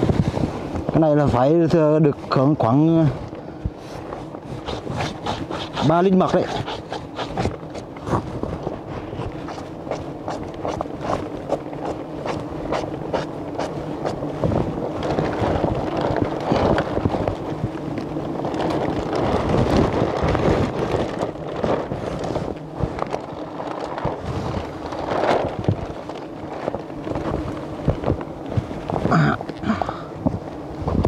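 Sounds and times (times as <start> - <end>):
honeybees buzzing: 0.0 - 31.0
plastic bag rustling: 3.8 - 29.7.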